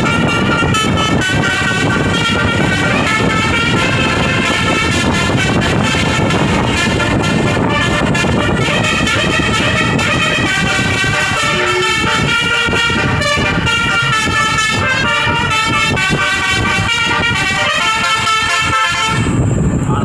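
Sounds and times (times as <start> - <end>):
multi-tone air horn: 0.0 - 19.4
vehicle engine and road rumble: 0.0 - 20.0.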